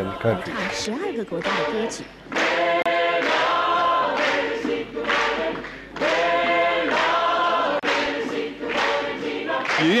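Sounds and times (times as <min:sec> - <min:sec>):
mixed choir singing a cappella: 0:00.0 - 0:10.0.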